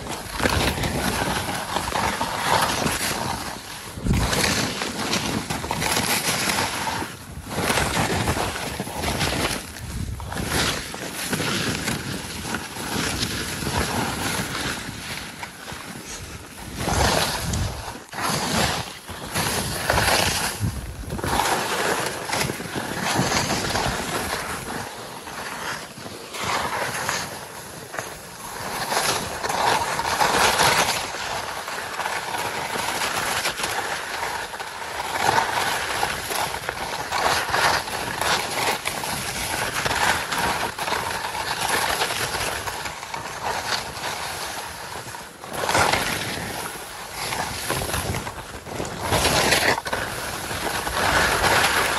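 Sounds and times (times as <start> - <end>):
skis scraping over snow: 0.0 - 51.9.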